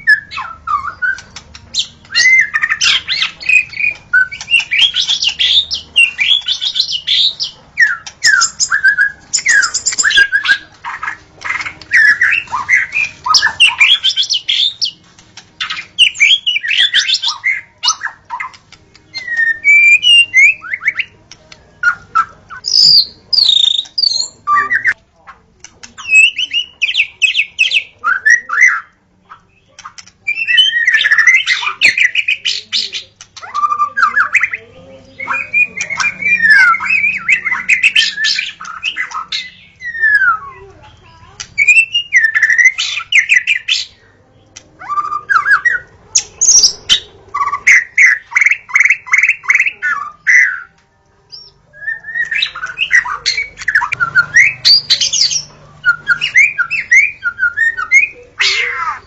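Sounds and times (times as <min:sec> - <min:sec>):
bird singing whistled phrases: 0:00.0 - 0:15.0, 0:15.6 - 0:21.1, 0:21.8 - 0:25.0, 0:26.0 - 0:34.6, 0:35.2 - 0:40.7, 0:41.5 - 0:44.0, 0:44.8 - 0:50.7, 0:51.3 - 0:59.0.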